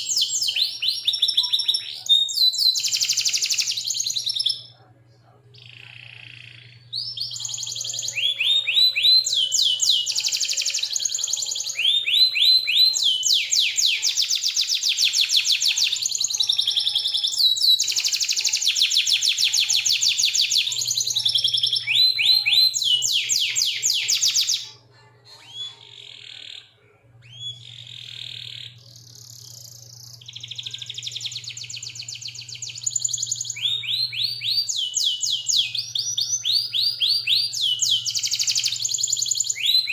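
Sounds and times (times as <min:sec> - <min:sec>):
canary singing trills: 0:00.0 - 0:04.9, 0:05.5 - 0:39.9.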